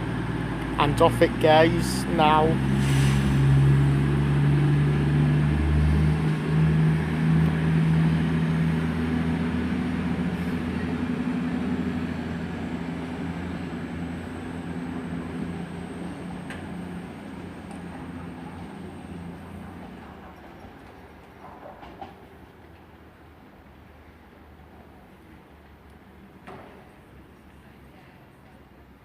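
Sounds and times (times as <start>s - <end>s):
diesel train engines accelerating: 0.0s - 29.0s.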